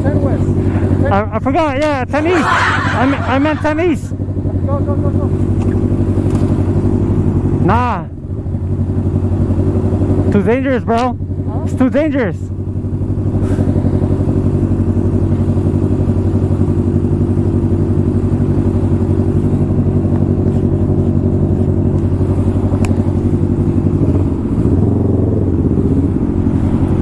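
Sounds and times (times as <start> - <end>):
motorcycle engine running steadily: 0.0 - 27.0.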